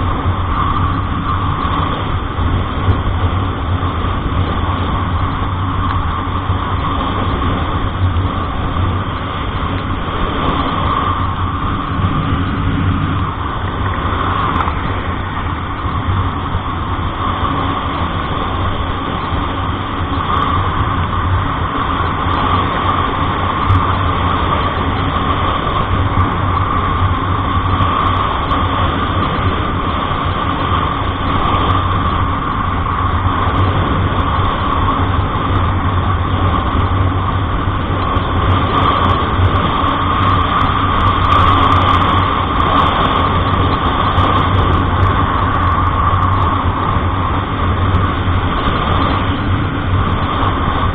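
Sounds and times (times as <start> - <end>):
vehicle engine hum and road noise: 0.0 - 50.9.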